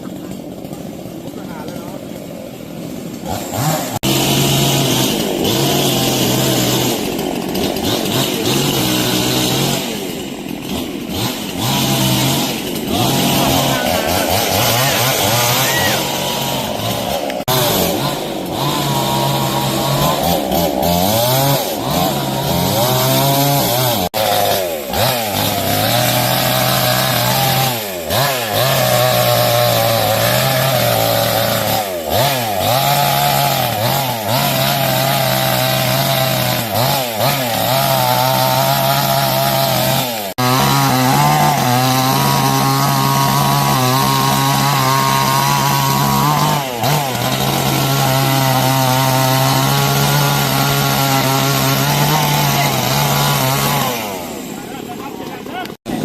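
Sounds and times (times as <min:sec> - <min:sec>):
chainsaws cutting wood: 0:00.0 - 0:56.0.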